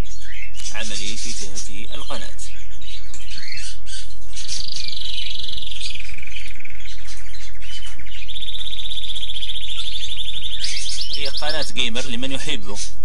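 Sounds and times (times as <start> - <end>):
low electrical hum: 0.0 - 13.0
songbird trilling: 0.0 - 13.0.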